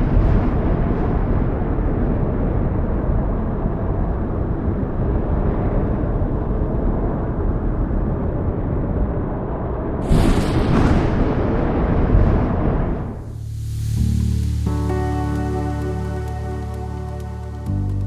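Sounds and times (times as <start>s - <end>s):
strong wind buffeting microphone: 0.0s - 14.9s.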